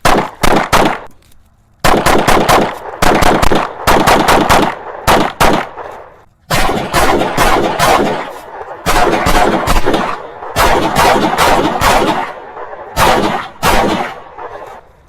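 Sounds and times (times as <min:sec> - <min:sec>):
pistol rapid fire: 0:00.0 - 0:01.1, 0:01.8 - 0:14.8.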